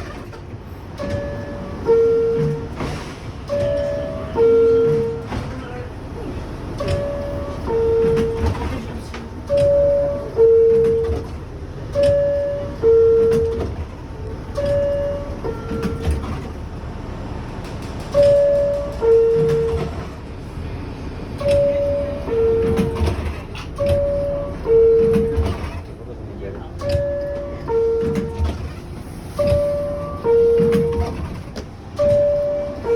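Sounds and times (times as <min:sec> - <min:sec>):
subway door chime: 0:00.0 - 0:32.9
train rumble: 0:00.0 - 0:32.9.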